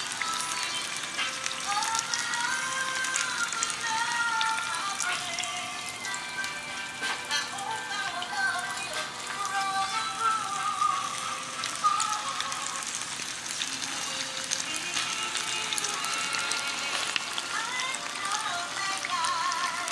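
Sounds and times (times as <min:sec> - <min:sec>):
background music: 0:00.0 - 0:19.9
fish frying in hot oil: 0:00.0 - 0:19.9.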